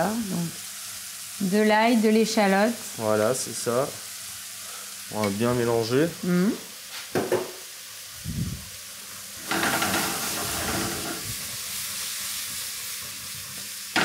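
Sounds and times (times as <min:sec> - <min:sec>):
mushrooms sizzling in a frying pan: 0:00.0 - 0:14.0.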